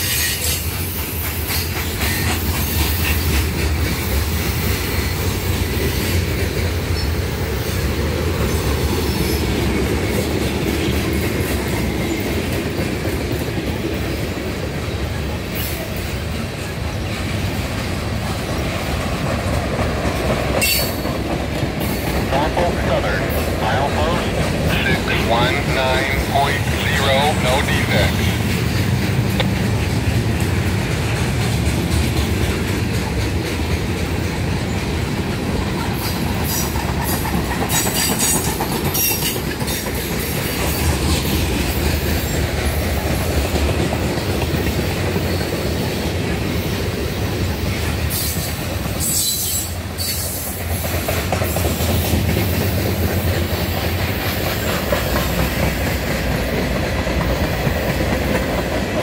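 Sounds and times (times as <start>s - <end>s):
clickety-clack over rail joints: 0.0s - 25.8s, 28.0s - 59.0s
train wheels rumbling on rails: 0.0s - 59.0s.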